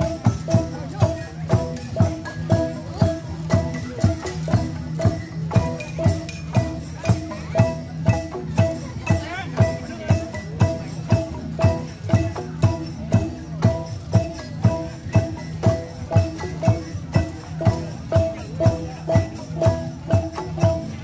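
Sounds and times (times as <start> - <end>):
bamboo xylophones struck with mallets: 0.0 - 21.0.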